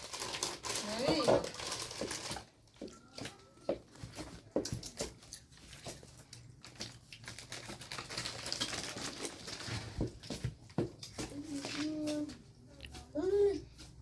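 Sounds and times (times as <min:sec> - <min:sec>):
crinkling rustle: 0:00.0 - 0:14.0.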